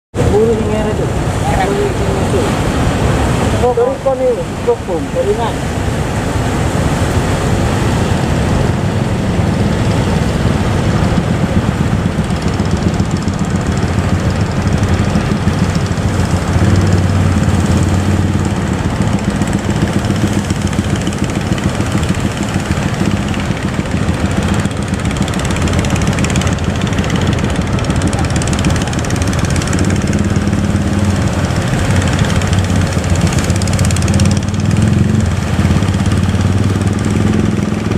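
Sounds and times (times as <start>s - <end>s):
boat engine chugging: 0.1s - 37.9s
constant rushing noise: 0.1s - 37.9s.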